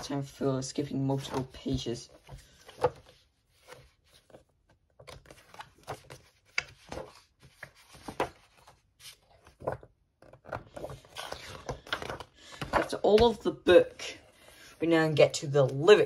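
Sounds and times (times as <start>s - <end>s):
book pages turning: 0.0s - 16.0s.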